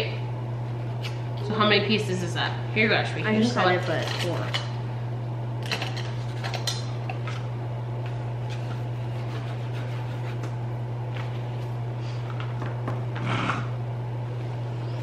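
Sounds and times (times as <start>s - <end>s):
steady low room hum: 0.0s - 15.0s.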